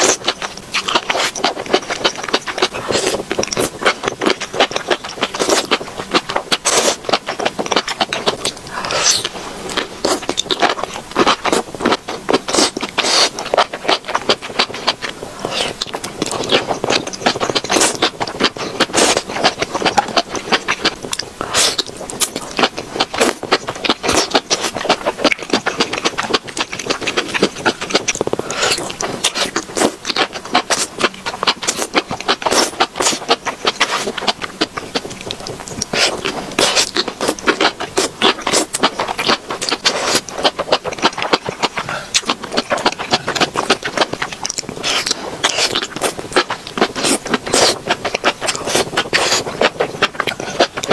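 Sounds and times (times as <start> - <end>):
slurping and chewing: 0.0 - 50.9.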